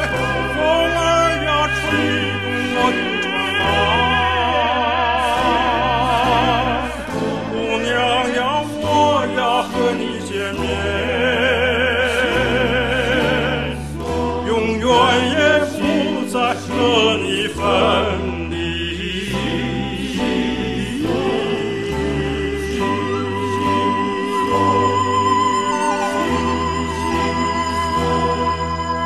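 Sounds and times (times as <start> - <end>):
instrumental accompaniment: 0.0 - 29.0
person singing with operatic vibrato: 0.0 - 29.0.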